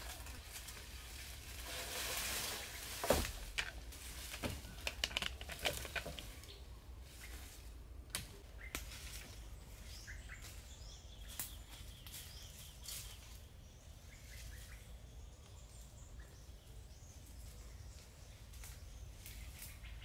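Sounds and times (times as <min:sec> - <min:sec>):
faint woodland ambience: 0:00.0 - 0:20.0.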